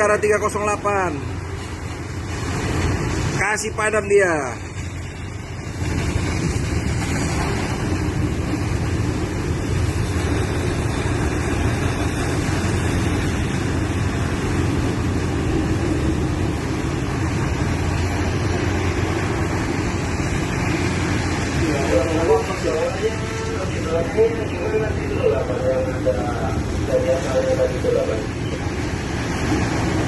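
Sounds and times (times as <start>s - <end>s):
boat engine running: 0.0s - 30.0s
rushing noise: 0.0s - 30.0s.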